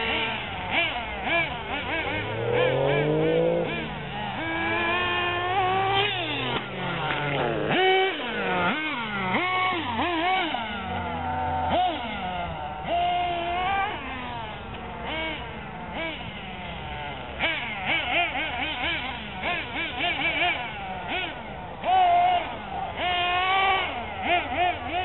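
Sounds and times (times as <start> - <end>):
remote control car motors whining: 0.0 - 25.0.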